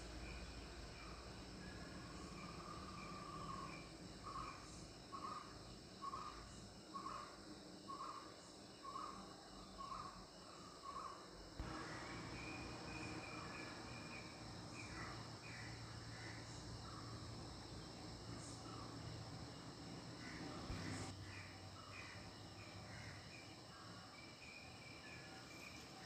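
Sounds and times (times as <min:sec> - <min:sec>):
faint insect chirping: 0:00.0 - 0:26.0.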